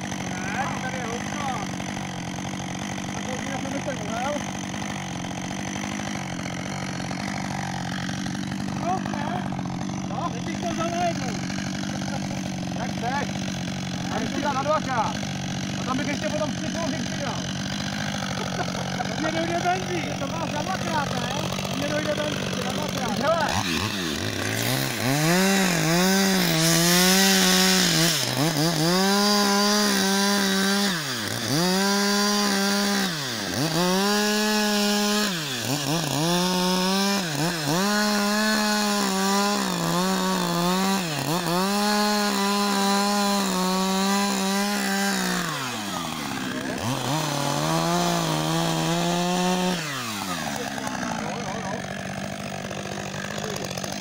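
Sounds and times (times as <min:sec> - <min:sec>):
chainsaw cutting ice: 0:00.0 - 0:54.0.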